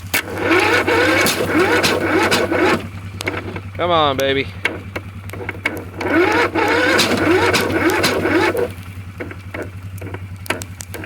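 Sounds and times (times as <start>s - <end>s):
electric starter cranking engine: 0.0s - 11.0s
scattered clicks: 0.1s - 11.0s.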